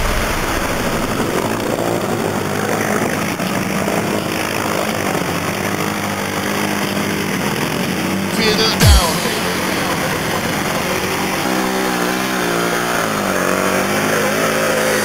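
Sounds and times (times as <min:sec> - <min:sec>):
atv engines droning: 0:00.0 - 0:15.0.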